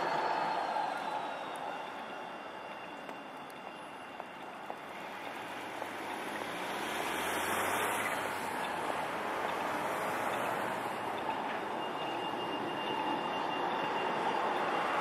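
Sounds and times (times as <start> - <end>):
city traffic: 0.0 - 15.0
tram rolling on tracks: 0.0 - 15.0.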